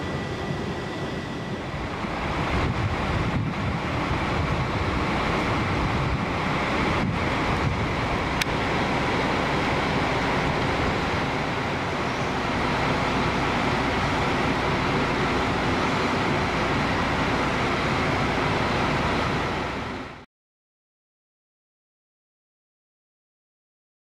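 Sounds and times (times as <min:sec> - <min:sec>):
vehicle and road noise: 0:00.0 - 0:20.2.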